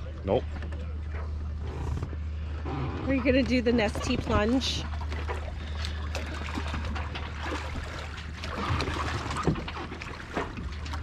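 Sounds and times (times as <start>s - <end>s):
steady low hum: 0.0s - 11.0s
water lapping against boat hull: 0.0s - 11.0s.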